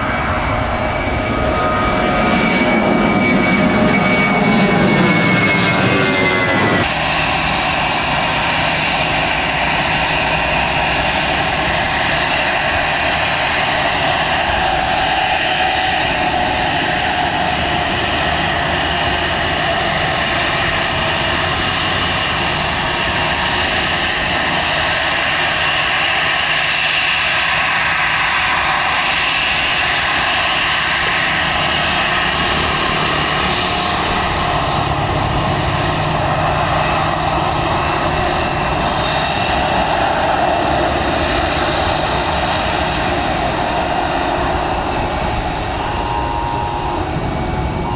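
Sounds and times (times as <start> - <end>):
airliner engines running: 0.0 - 47.9.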